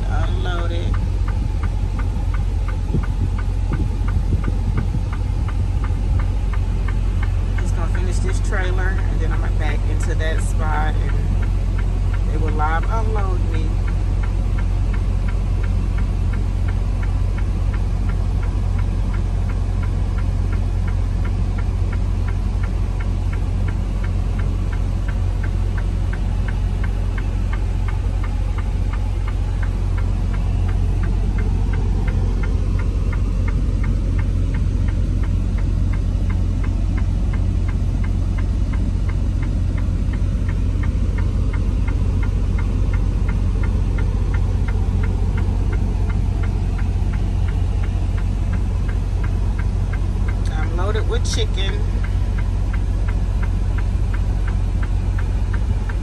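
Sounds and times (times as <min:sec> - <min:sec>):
diesel truck engine idling: 0:00.0 - 0:56.0
light ticking: 0:00.0 - 0:56.0.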